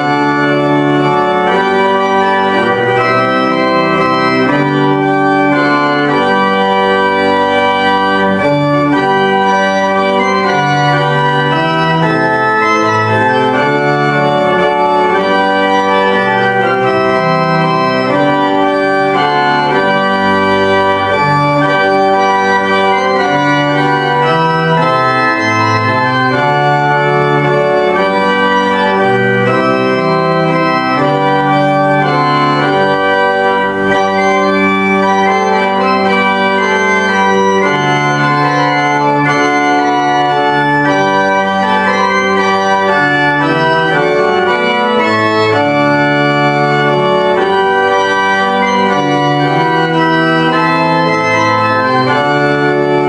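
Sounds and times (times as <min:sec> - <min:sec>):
church organ playing a hymn: 0:00.0 - 0:53.0.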